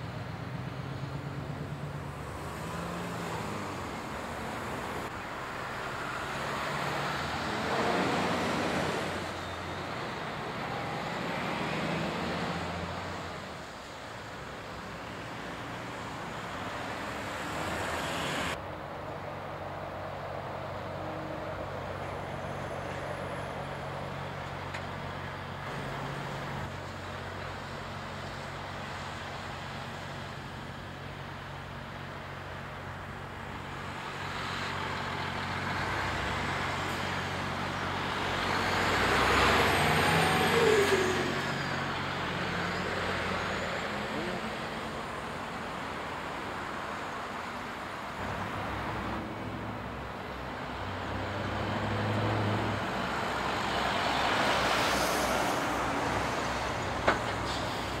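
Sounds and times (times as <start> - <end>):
car traffic: 0.0 - 58.0
diesel lorries passing: 0.0 - 58.0.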